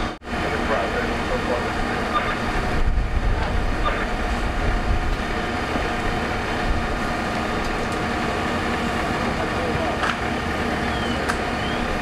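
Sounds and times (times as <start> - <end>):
fire engines droning: 0.0 - 12.0.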